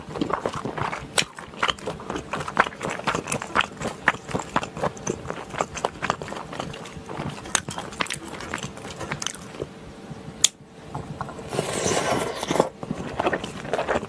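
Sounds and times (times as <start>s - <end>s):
slurping noodles: 0.0s - 9.7s, 11.5s - 14.0s
chewing and wet mouth sounds: 0.0s - 9.8s, 12.5s - 14.0s.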